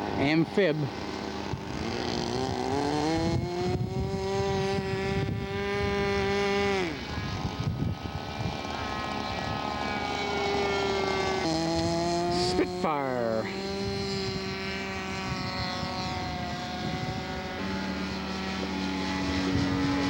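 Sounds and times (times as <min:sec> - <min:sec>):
model airplane engines: 0:00.0 - 0:20.0.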